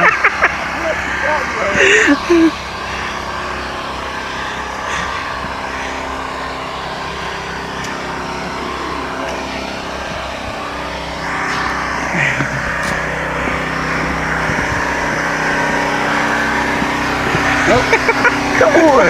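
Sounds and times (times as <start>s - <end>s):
motor engine running: 0.0s - 19.0s.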